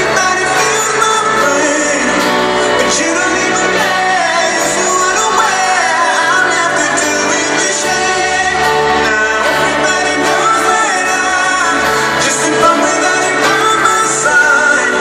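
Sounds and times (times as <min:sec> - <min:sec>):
acoustic guitars: 0:00.0 - 0:15.0
live pop band: 0:00.0 - 0:15.0
person singing: 0:00.0 - 0:15.0.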